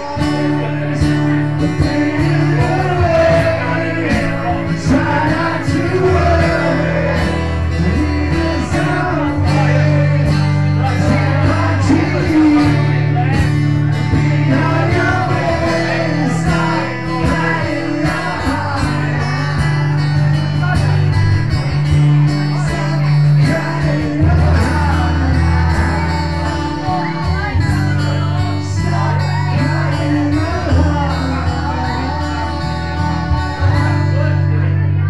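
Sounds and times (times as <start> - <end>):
person singing: 0.0 - 20.9, 21.8 - 35.0
acoustic guitars strummed: 0.0 - 35.0.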